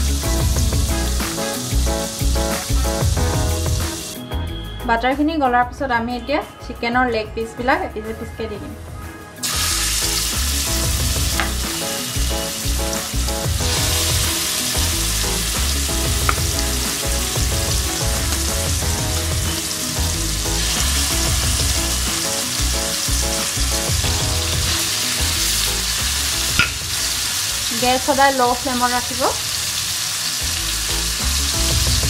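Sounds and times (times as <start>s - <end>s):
chicken sizzling in oil: 0.0s - 4.2s, 9.4s - 32.0s.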